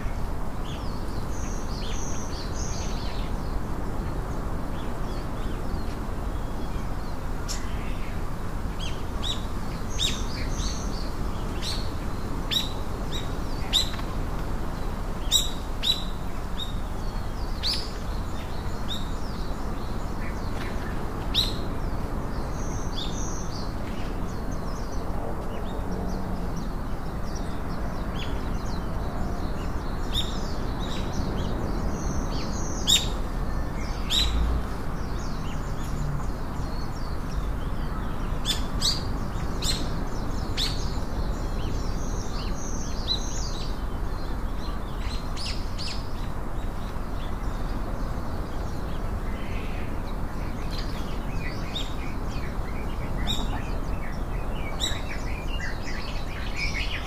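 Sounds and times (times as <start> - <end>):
low background noise: 0.0 - 57.0
small birds chirping: 0.0 - 57.0.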